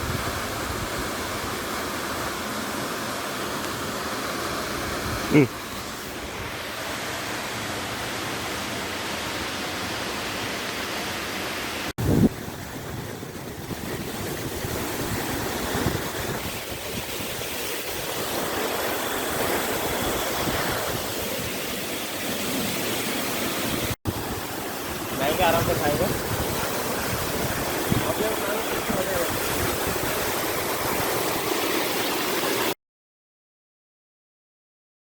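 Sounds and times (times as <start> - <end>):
waterfall rushing: 0.0 - 32.8.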